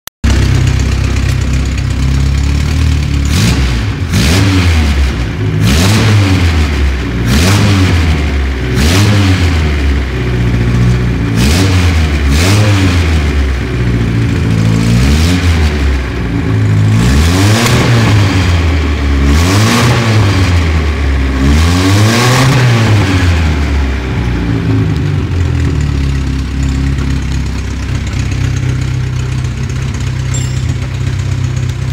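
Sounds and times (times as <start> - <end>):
car engine revving and idling: 0.2 - 31.9.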